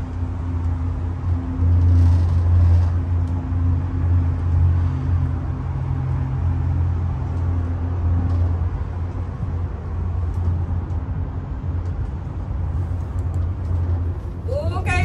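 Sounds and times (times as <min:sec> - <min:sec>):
cable car hum and rumble: 0:00.0 - 0:15.0.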